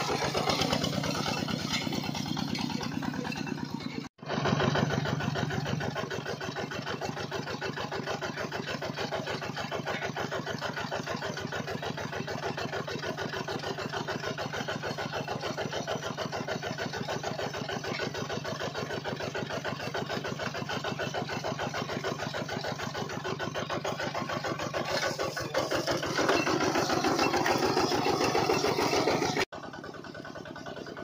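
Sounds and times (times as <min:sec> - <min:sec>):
small water pump running: 0:00.0 - 0:31.0.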